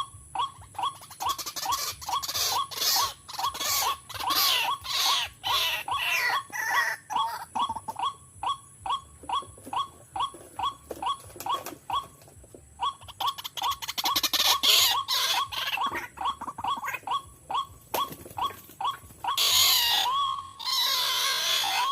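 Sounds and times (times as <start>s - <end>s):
bird calling harsh repeated notes: 0.0s - 21.9s.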